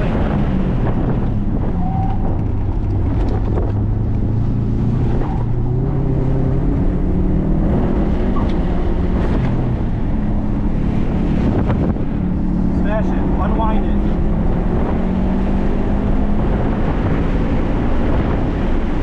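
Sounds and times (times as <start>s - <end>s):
car engine pulling hard: 0.0s - 19.0s
wind and road noise: 0.0s - 19.0s.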